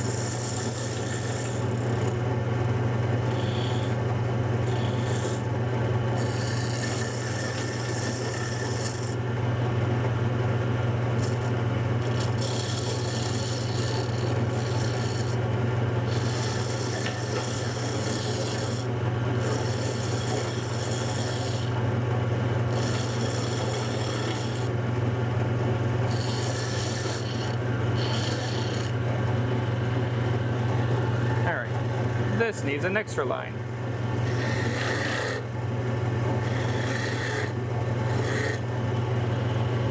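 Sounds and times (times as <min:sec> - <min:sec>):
turning tool scraping wood: 0:00.0 - 0:02.4, 0:03.0 - 0:09.8, 0:11.1 - 0:32.8, 0:34.0 - 0:39.9
wood lathe humming: 0:00.0 - 0:33.0, 0:33.8 - 0:39.9.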